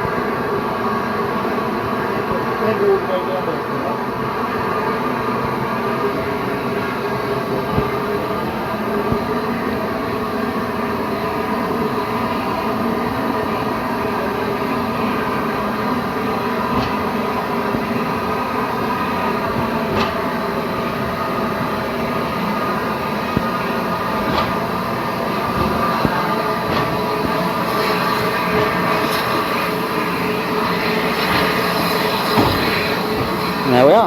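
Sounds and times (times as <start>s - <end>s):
diesel locomotive engine idling: 0.0s - 34.0s.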